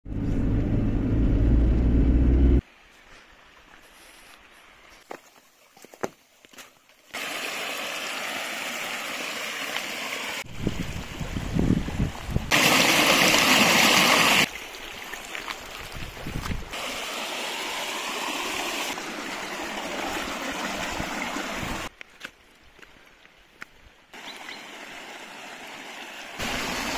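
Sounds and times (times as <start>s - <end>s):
stream running over rocks: 2.6s - 26.9s.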